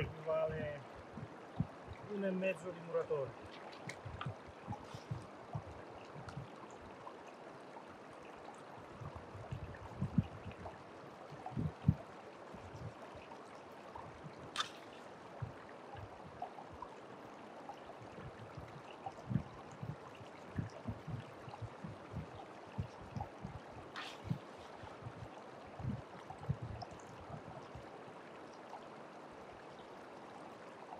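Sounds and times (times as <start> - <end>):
creek running over stones: 0.0 - 30.9.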